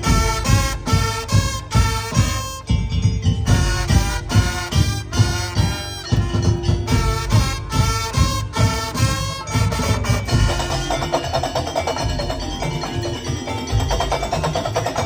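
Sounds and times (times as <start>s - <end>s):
band playing: 0.0s - 15.0s.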